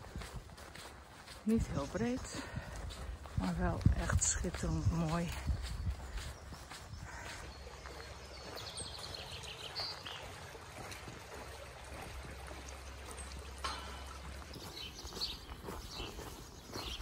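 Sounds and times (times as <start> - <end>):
brook trickling over rocks: 0.0 - 17.0.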